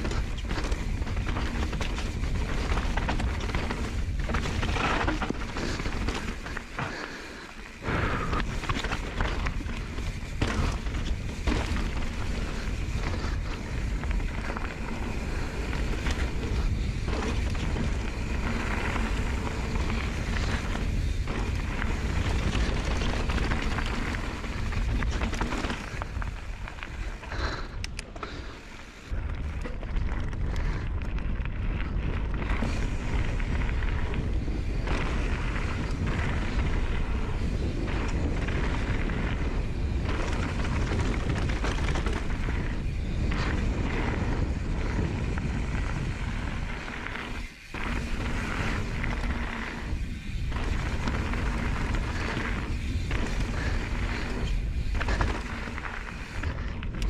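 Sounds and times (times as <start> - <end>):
wind buffeting microphone: 0.0 - 7.1, 7.7 - 28.0, 28.6 - 57.0
bike tyres crunching on stones: 0.0 - 57.0.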